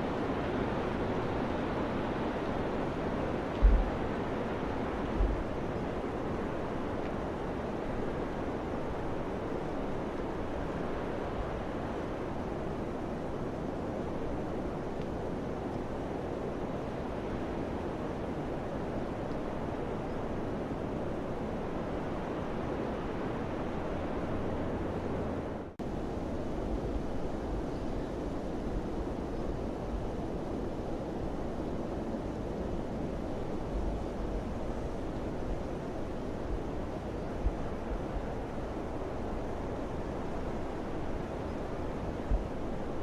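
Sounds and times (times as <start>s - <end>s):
rushing wind: 0.0s - 43.0s.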